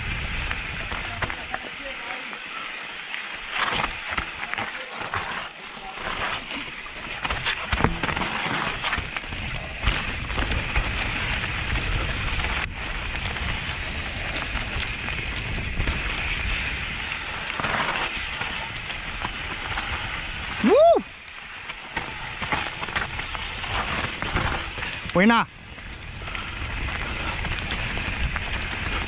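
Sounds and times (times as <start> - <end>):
bike rattling: 0.0 - 29.0
bike tyres rolling over leaves: 0.0 - 29.0.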